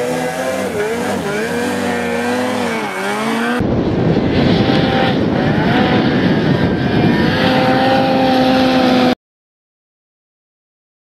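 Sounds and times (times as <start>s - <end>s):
snowmobile engine running hard: 0.0s - 9.2s.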